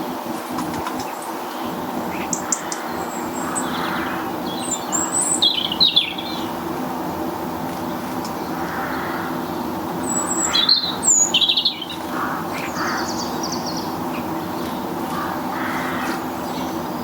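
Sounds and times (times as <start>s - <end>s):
low background hum: 0.0s - 17.0s
small birds chirping: 0.9s - 17.0s.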